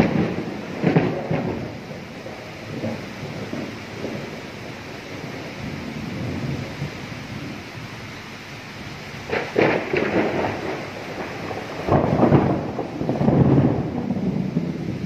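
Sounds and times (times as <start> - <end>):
thunder clap and rumble: 0.0 - 7.7, 9.1 - 15.0
steady rain: 0.0 - 15.0.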